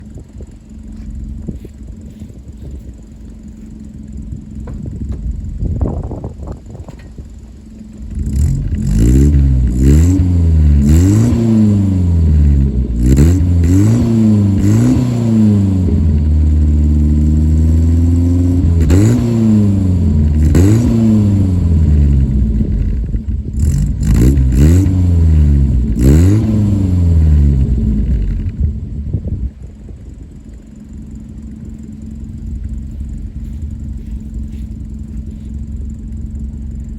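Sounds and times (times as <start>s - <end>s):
car engine revving: 0.0s - 28.8s, 30.4s - 36.9s.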